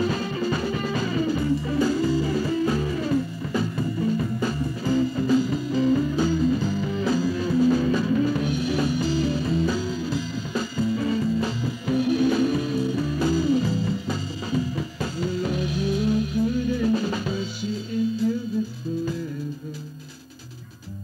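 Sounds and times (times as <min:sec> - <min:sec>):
gospel music with guitar and drums: 0:00.0 - 0:21.0.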